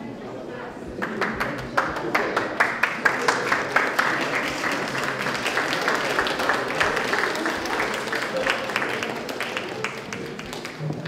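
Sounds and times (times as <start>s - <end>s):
audience clapping in rhythm: 0.9s - 11.0s.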